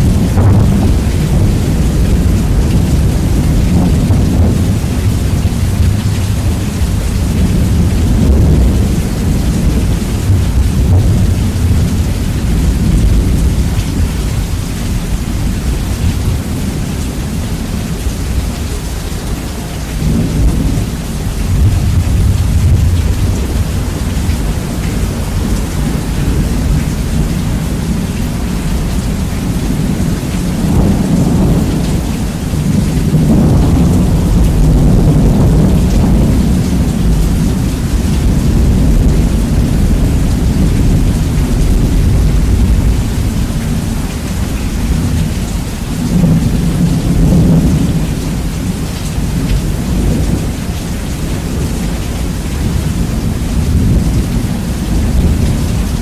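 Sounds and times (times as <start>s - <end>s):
heavy rain: 0.0s - 56.0s
rolling thunder: 0.0s - 56.0s.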